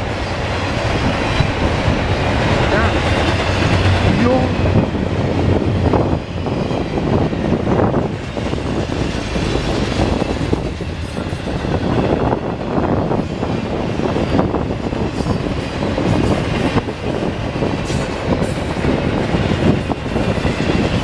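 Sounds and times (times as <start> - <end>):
freight train wheels rumbling on rail: 0.0 - 21.0.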